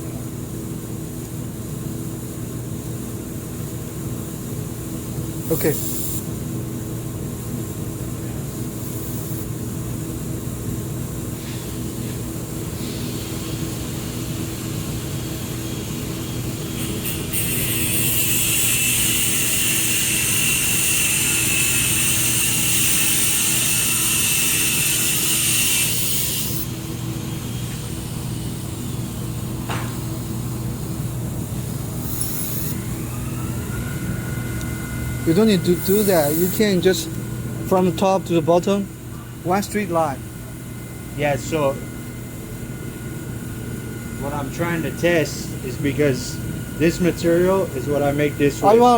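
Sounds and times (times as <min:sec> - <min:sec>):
cooling fans humming: 0:00.0 - 0:48.9
laser welder hiss and whine: 0:00.4 - 0:48.9.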